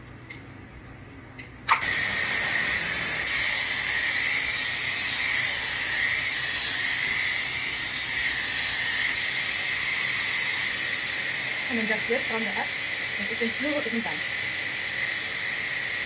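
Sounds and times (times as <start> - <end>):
hair dryer blowing with whine: 1.7 - 16.0.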